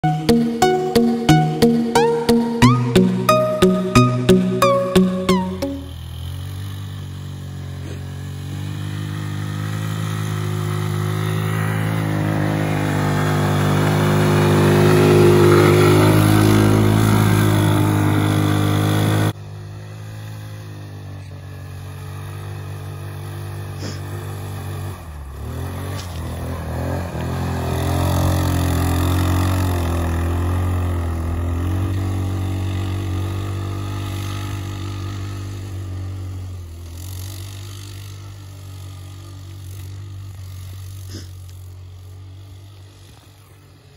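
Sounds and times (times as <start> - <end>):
atv engine running: 5.9 - 43.9.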